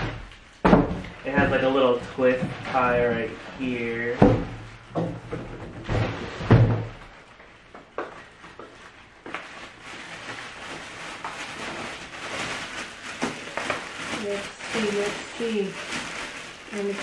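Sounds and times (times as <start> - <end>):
plastic wrapping rustling: 0.0 - 17.0.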